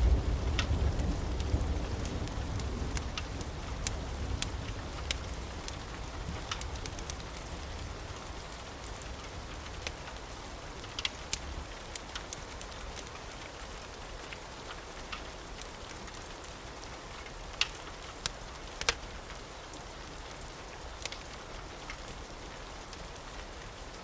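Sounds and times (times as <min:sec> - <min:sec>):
rain hiss: 0:00.0 - 0:24.0
wood fire crackling: 0:00.0 - 0:24.0.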